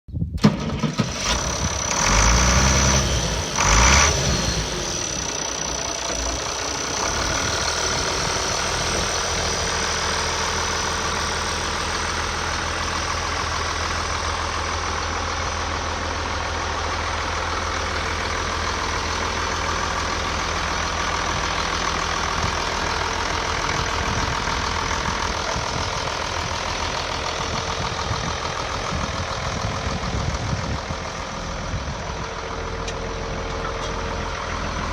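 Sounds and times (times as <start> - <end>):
tractor engine idling: 0.4 - 34.9.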